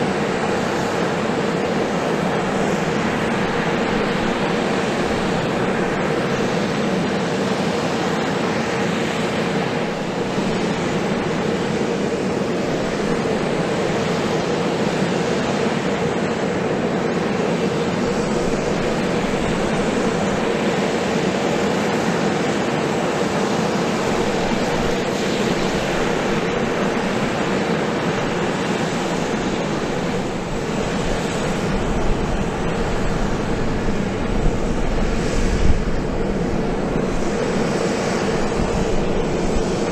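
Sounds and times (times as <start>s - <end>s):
aircraft turbine running: 0.0s - 39.9s.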